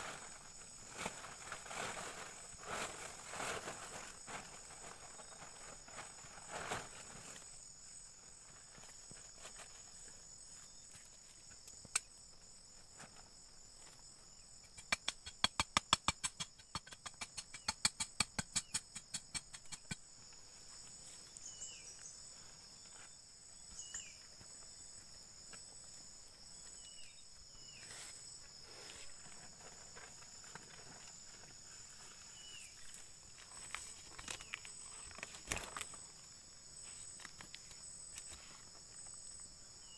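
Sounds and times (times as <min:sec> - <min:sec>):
insect chorus buzzing drone: 0:00.0 - 0:39.9.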